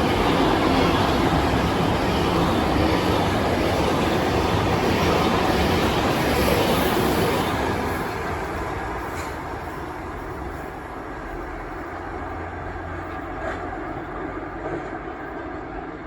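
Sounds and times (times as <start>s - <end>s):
freight train passing: 0.0s - 16.0s.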